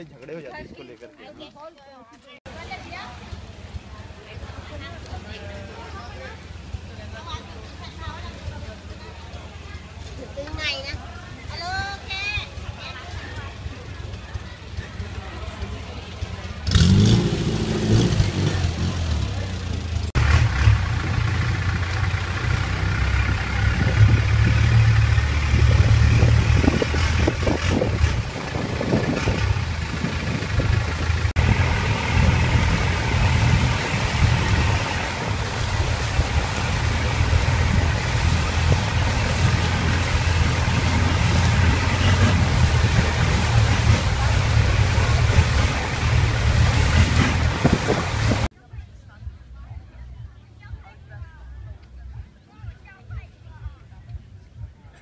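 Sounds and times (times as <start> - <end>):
boat engine running: 2.5 - 48.5
water noise: 2.5 - 48.5.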